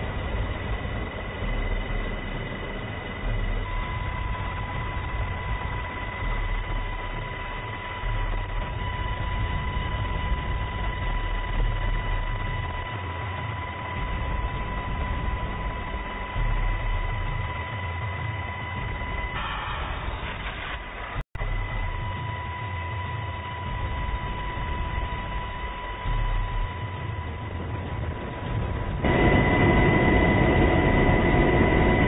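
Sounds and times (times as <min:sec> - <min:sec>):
helicopter rotor and engine: 0:00.0 - 0:32.0
high helicopter whine: 0:00.0 - 0:32.0.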